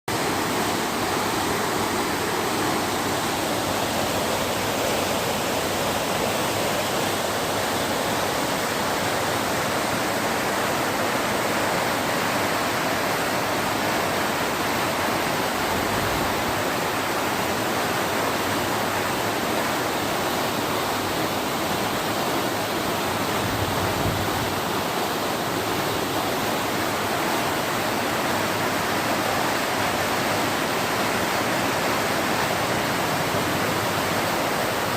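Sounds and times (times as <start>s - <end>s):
canal water rushing: 0.1s - 34.9s.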